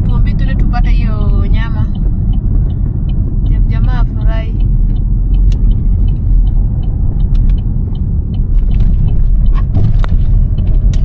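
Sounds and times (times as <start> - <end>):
car rumbling from inside: 0.0 - 11.0.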